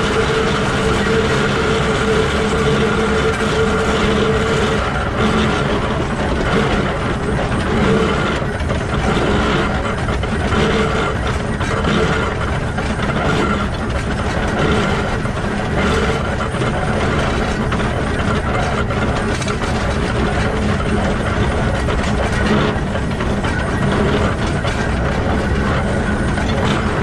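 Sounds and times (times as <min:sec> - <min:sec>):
locomotive gears clattering: 0:00.0 - 0:27.0
wheels rolling on rails: 0:00.0 - 0:27.0.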